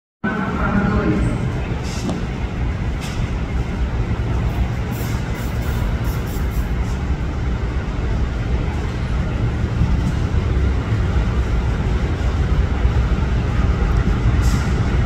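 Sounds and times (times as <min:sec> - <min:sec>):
diesel locomotive engine running: 0:00.2 - 0:15.0.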